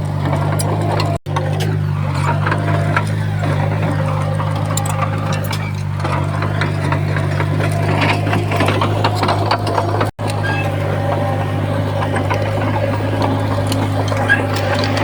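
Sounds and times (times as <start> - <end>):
bulldozer diesel engine under load: 0.0 - 15.0
clanks of steel tracks: 0.0 - 15.0.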